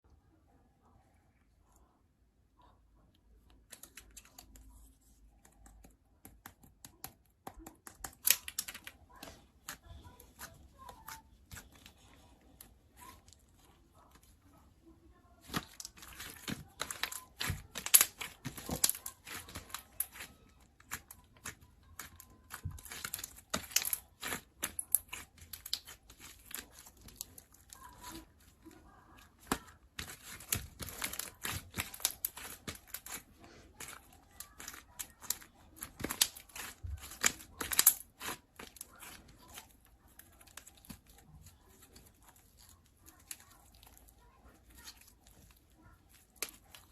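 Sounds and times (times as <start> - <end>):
slime crackling and popping: 5.6 - 13.4, 15.4 - 46.9.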